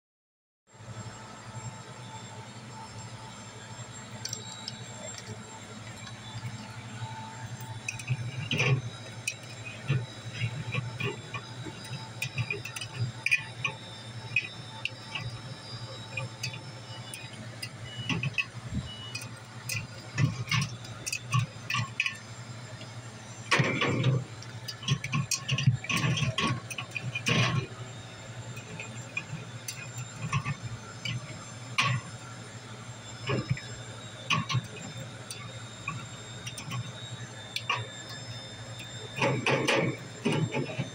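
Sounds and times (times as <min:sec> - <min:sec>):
steady low hum: 0:00.8 - 0:40.9.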